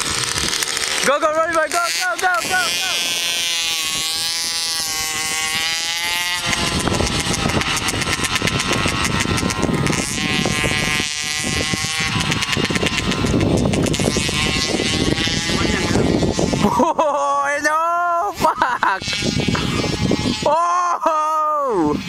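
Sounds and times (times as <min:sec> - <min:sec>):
motorbike engines whining: 0:00.0 - 0:22.0.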